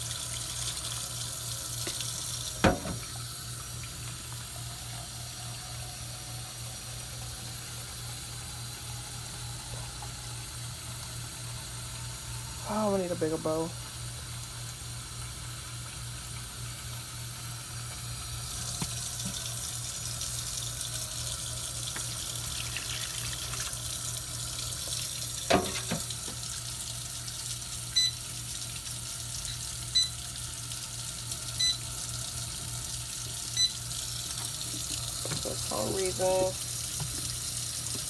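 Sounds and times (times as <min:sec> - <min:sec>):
kitchen tap running into bowl: 0:00.0 - 0:38.0.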